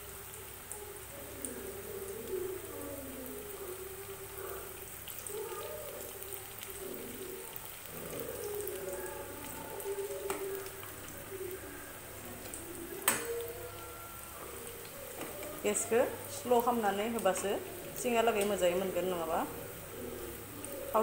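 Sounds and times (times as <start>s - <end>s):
pastries deep-frying in oil: 0.0s - 21.0s.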